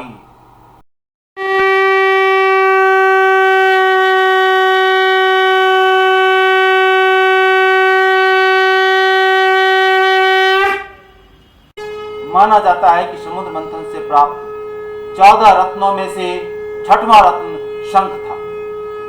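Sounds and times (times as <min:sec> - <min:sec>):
conch shell blown: 0:01.4 - 0:19.0.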